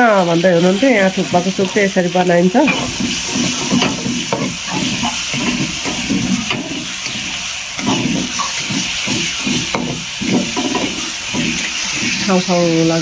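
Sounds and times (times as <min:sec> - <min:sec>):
food sizzling: 0:00.0 - 0:13.0
ladle scraping iron wok: 0:00.4 - 0:13.0.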